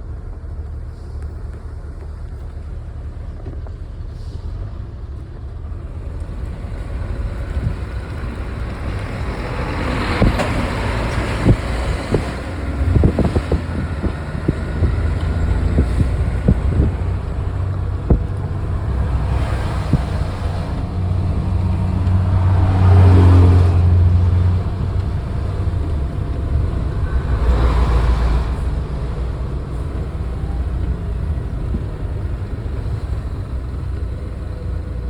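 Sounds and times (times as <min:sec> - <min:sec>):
vehicle rumble on road: 0:00.0 - 0:35.0
wind buffeting microphone: 0:06.2 - 0:35.0.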